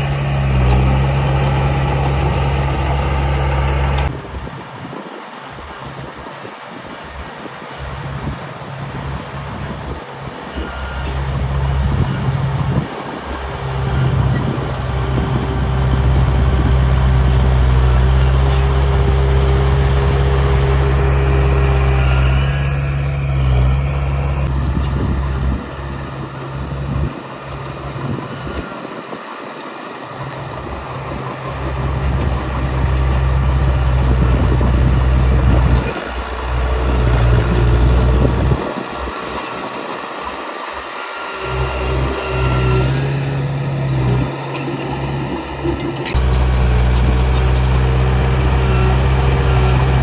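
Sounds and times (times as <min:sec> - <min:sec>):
heavy diesel engine running: 0:00.0 - 0:04.6, 0:07.6 - 0:50.0.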